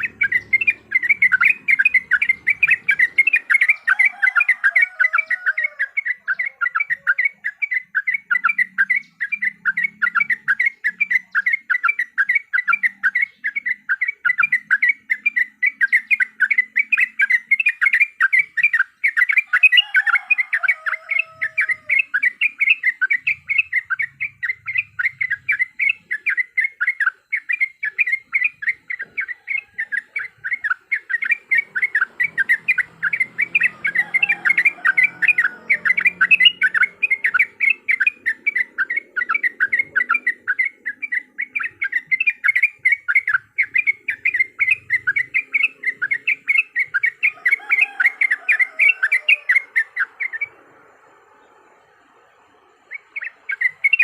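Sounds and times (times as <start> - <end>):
bird chattering sharp notes: 0.0 - 51.0, 52.7 - 54.0.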